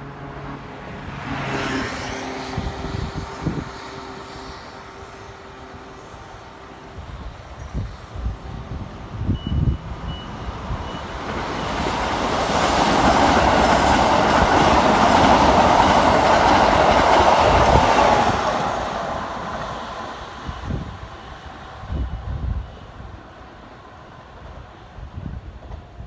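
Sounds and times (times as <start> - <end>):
train wheels rolling on rail: 1.8 - 26.0.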